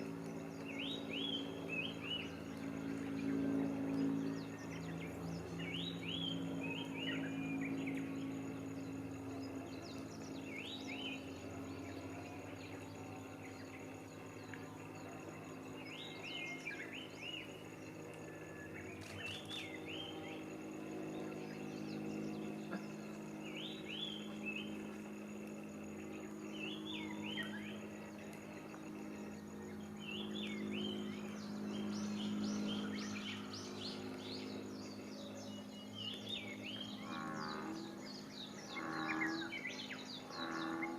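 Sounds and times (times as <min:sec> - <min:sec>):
small songbirds singing: 0:00.0 - 0:40.9
steady low hum: 0:00.0 - 0:40.9.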